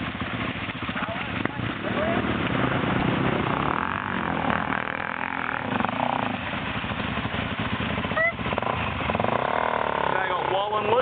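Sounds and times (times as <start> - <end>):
trail bike engine revving: 0.0 - 11.0.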